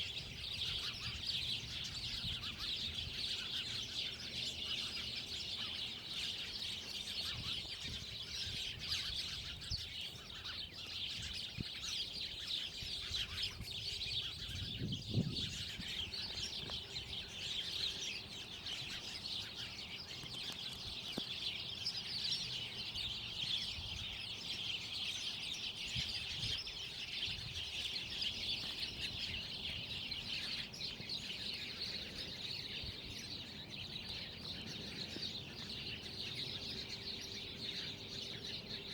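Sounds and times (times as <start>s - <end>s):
many birds chirping: 0.0s - 38.9s.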